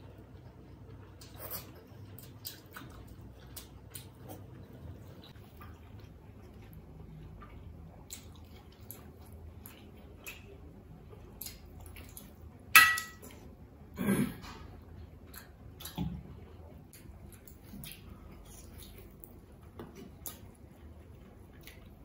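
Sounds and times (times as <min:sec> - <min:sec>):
chewing and lip smacks: 0:00.7 - 0:12.5, 0:15.2 - 0:22.0.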